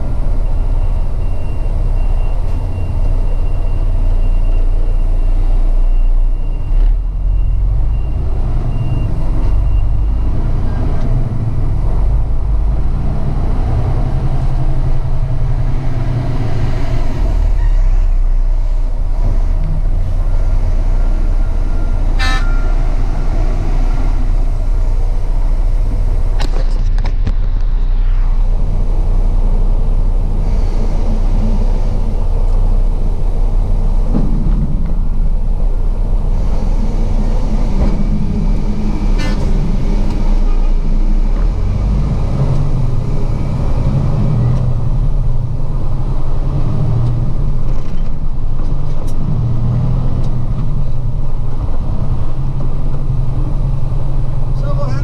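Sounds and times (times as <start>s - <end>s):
diesel truck engine running: 0.0s - 55.0s
road noise: 0.0s - 55.0s.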